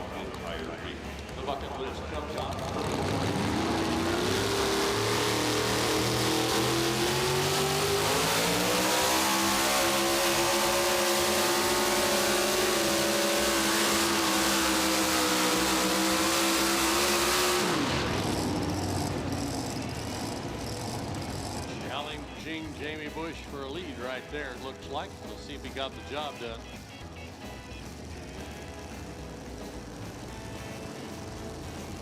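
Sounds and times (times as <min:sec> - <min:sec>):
truck engine at full throttle: 0:00.0 - 0:32.0.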